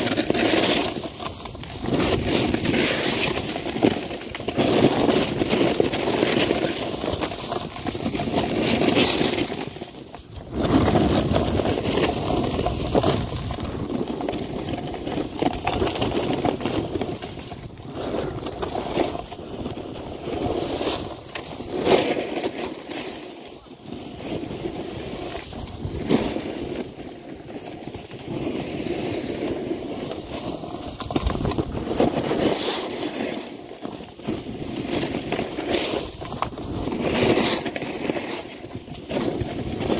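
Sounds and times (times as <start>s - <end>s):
snowboard scraping over snow: 0.0s - 39.9s.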